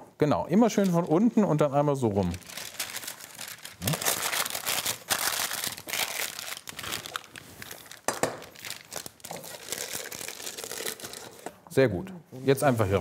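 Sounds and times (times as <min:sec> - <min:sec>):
baking paper crinkling: 0:00.6 - 0:11.5.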